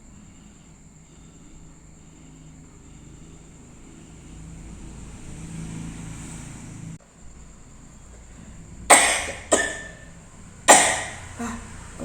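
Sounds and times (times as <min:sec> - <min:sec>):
low background rumble: 0:00.0 - 0:05.5, 0:06.4 - 0:12.0
faint high whine: 0:00.0 - 0:12.0.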